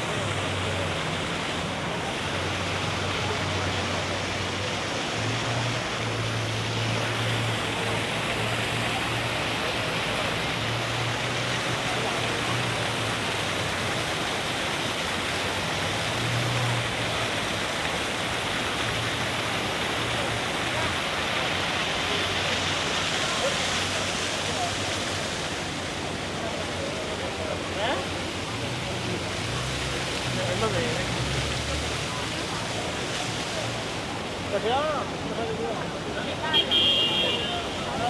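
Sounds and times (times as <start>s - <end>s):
rushing street ambience: 0.0s - 38.0s.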